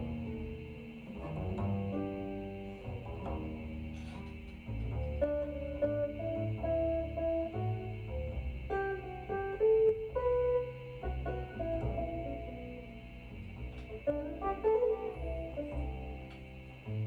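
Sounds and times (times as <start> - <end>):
plucked jazz guitar melody: 0.0 - 17.0
walking bass line: 0.0 - 17.0.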